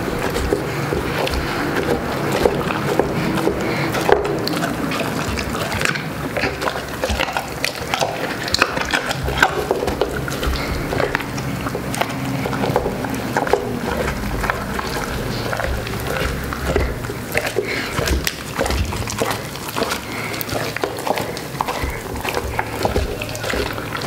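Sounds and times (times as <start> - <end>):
bone crunching: 0.0 - 24.0
dog chomping wetly: 0.0 - 24.0.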